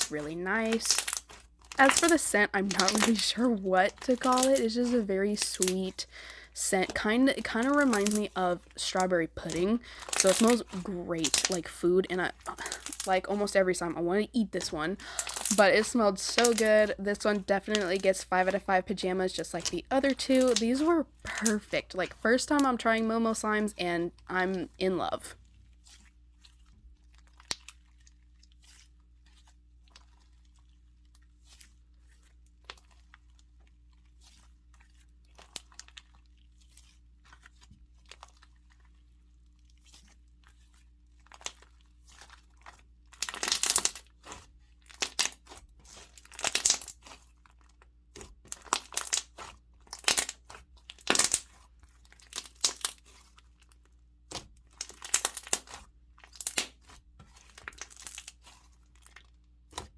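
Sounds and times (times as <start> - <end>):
slime clicking and crackling: 0.0 - 6.0, 6.8 - 11.7, 12.3 - 13.8, 14.6 - 18.6, 19.3 - 22.6, 25.8 - 39.0, 39.7 - 59.9
slime crunching squishes: 0.0 - 59.9.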